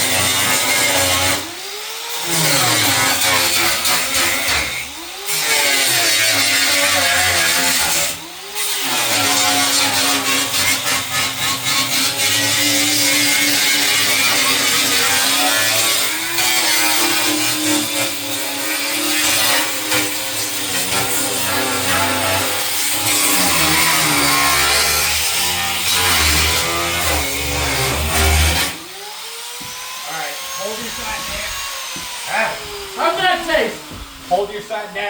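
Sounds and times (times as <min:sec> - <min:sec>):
power cutting tool cutting steel: 0:00.0 - 0:35.0.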